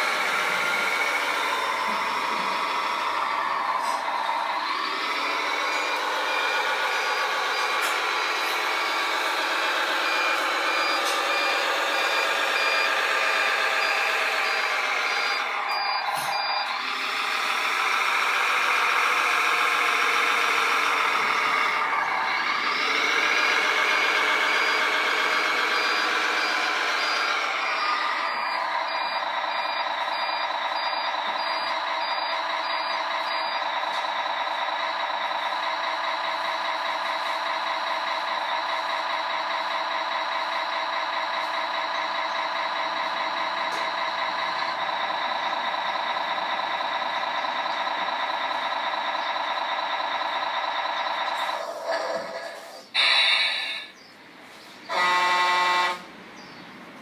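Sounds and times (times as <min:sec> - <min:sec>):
reversing beeper: 0:00.0 - 0:51.7, 0:52.8 - 0:56.1
simulated diesel engine: 0:00.0 - 0:57.0.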